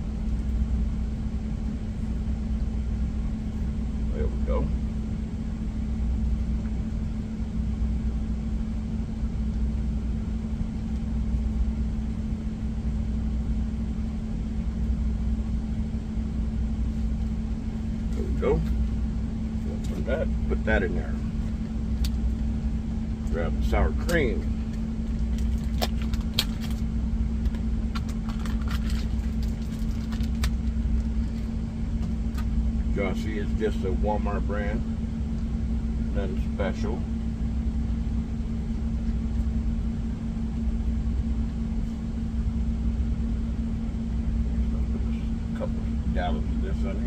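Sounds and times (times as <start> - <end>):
truck engine idling: 0.0 - 47.0.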